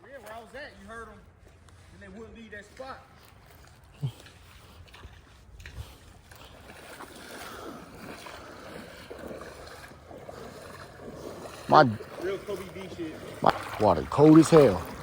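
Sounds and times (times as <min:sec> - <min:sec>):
water sloshing around legs: 0:00.0 - 0:15.0.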